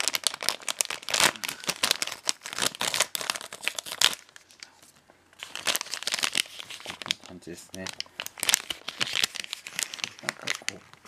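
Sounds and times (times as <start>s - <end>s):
paper bag crinkling and tearing: 0.0s - 4.4s, 5.4s - 11.0s.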